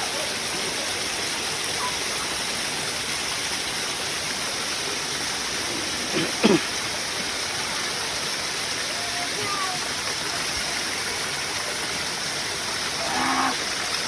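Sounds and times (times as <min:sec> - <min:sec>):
waterfall pouring and splashing: 0:00.0 - 0:14.0.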